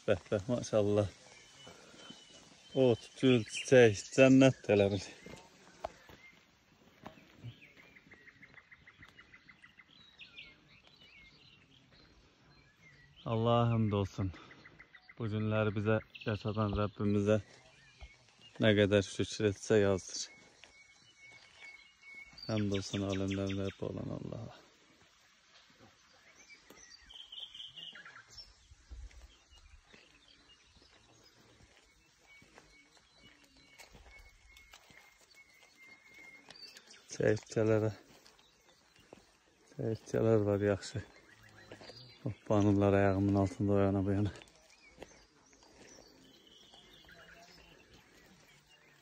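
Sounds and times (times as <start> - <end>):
quiet outdoor ambience: 0.0 - 49.0
high bird chirps: 0.5 - 24.4, 26.0 - 49.0.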